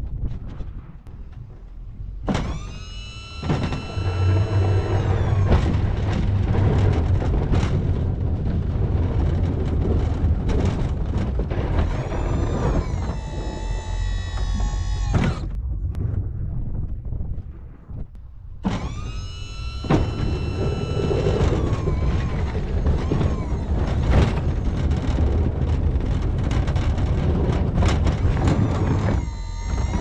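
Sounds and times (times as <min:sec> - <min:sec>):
loader engine rumbling: 0:01.1 - 0:16.0, 0:18.6 - 0:30.0
plow scraping through snow: 0:02.5 - 0:15.4, 0:18.7 - 0:30.0.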